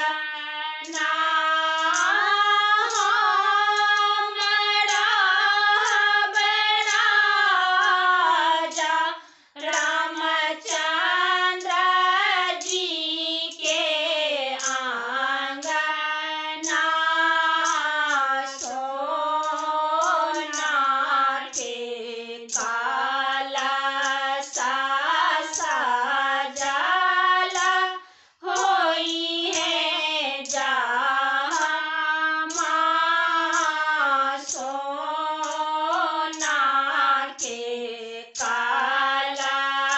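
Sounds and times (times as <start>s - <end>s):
women singing in unison: 0.0s - 39.9s.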